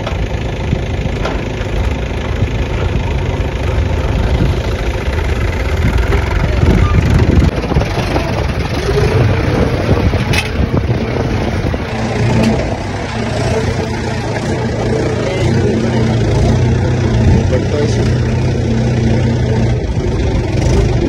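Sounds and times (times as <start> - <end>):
backhoe diesel engine: 0.0 - 21.0.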